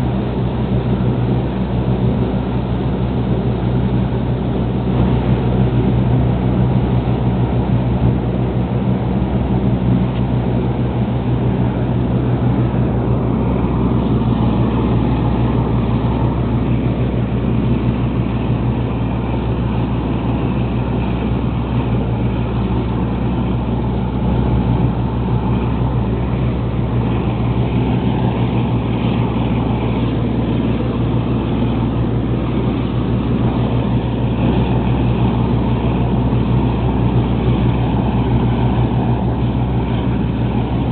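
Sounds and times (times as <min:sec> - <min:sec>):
boat diesel engine running: 0:00.0 - 0:40.9
rush of wake and wind: 0:00.0 - 0:40.9.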